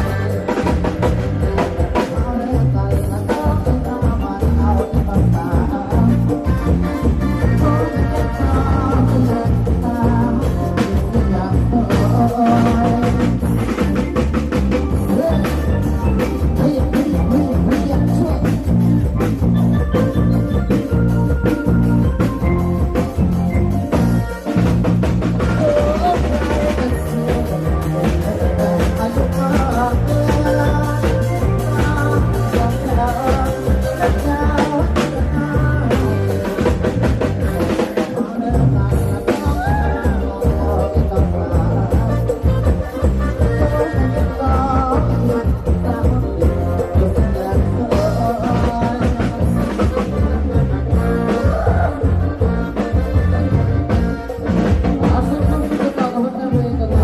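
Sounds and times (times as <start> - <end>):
heavy thudding bass line: 0.0 - 55.9
driving drum kit: 0.0 - 57.0
electric guitar: 0.0 - 57.0
person singing: 0.0 - 57.0
rock band over loudspeakers: 0.0 - 57.0.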